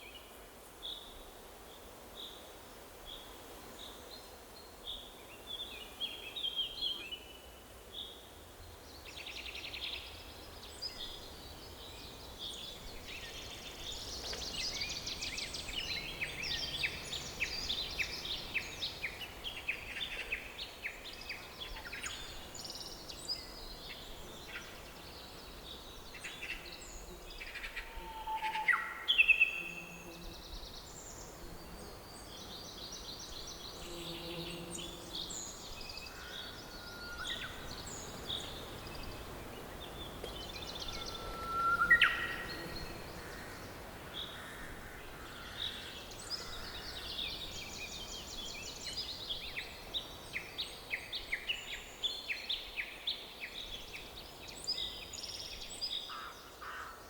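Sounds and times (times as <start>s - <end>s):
faint steady hiss: 0.0s - 57.0s
songbirds singing and chirping: 3.0s - 57.0s.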